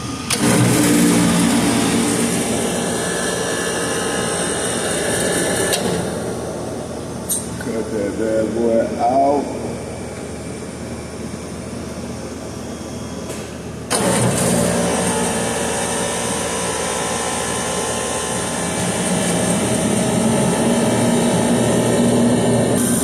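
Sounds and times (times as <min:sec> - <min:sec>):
low machine hum: 0:00.0 - 0:23.0
refrigeration compressor running: 0:00.0 - 0:23.0.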